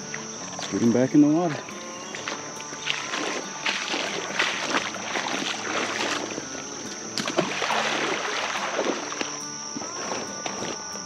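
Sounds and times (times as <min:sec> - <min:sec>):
water splashing and sloshing: 0:00.0 - 0:10.9.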